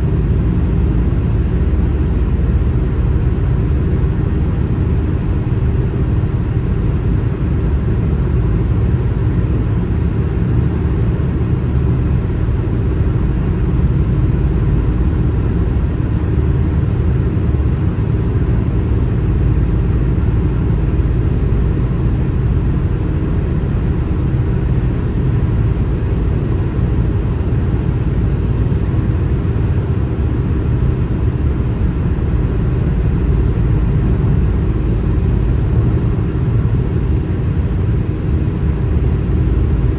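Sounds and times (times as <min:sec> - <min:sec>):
road and tyre noise in car: 0:00.0 - 0:39.9.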